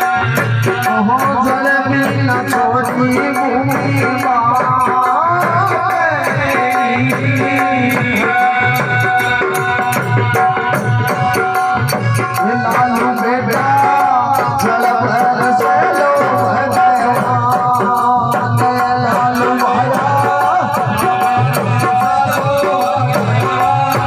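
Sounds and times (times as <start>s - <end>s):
folk devotional song instrumental: 0.0s - 24.0s
steady drum beat: 0.0s - 24.0s.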